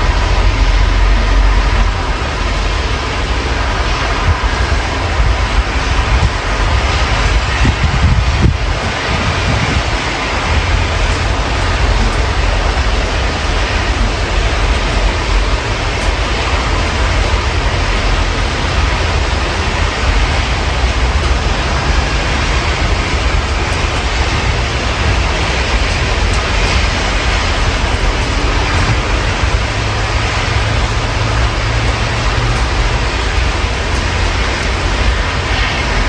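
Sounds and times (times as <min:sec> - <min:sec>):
low rumble: 0:00.0 - 0:36.0
steady rain hiss: 0:00.0 - 0:36.0.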